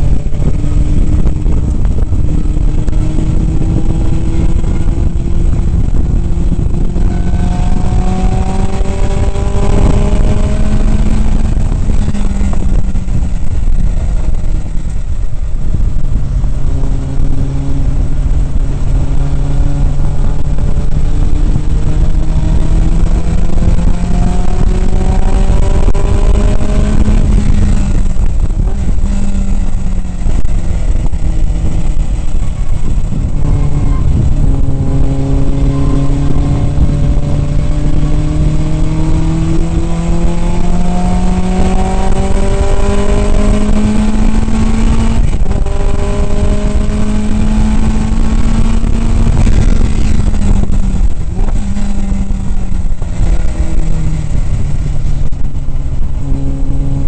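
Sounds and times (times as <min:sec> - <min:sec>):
race car engine revving: 0:00.0 - 0:57.0
road noise: 0:00.0 - 0:57.0
wind noise: 0:00.0 - 0:57.0.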